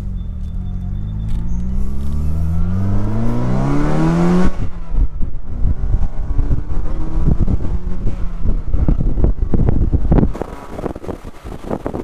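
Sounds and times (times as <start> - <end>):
car engine accelerating hard: 0.0 - 12.0
wind buffeting microphone: 0.9 - 12.0.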